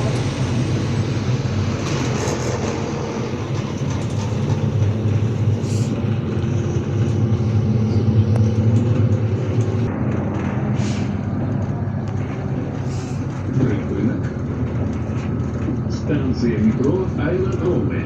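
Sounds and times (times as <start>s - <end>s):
bus engine drone: 0.0s - 18.0s
road and body noise: 0.0s - 18.0s.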